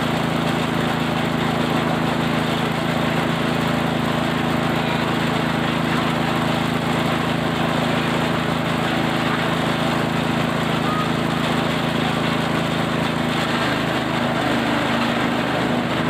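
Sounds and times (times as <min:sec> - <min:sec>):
chopper machine running: 0:00.0 - 0:16.0.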